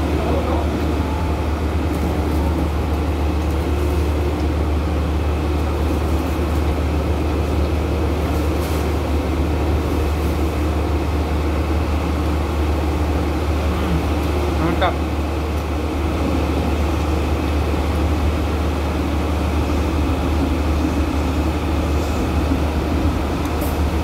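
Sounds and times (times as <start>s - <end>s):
train carriage rumble and hum: 0.0s - 24.0s.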